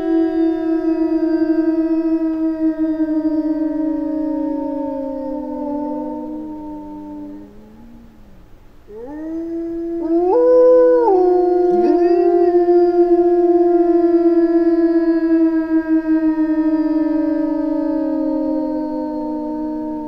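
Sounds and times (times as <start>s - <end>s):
wolves howling in chorus: 0.0s - 8.2s, 8.9s - 20.0s.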